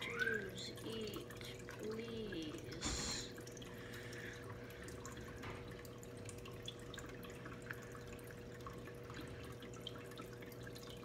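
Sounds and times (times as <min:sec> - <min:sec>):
low steady hum: 0:00.0 - 0:11.0
water dripping: 0:00.0 - 0:11.0.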